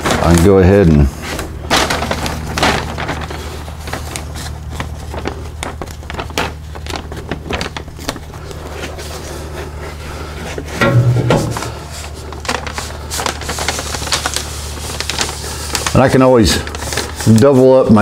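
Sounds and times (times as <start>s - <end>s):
fan humming: 0.0s - 18.0s
paper crinkling and rustling: 0.0s - 18.0s.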